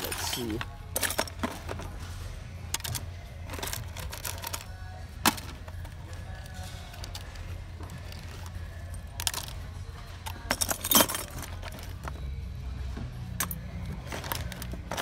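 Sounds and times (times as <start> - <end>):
metal tackle rattling in plastic box: 0.0 - 1.9, 2.7 - 9.6, 10.2 - 12.2, 13.4 - 15.0.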